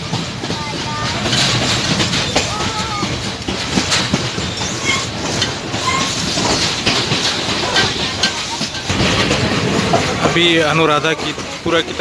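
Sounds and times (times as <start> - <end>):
train carriage rumble: 0.0 - 12.0
wheel clatter and knocks: 0.0 - 12.0.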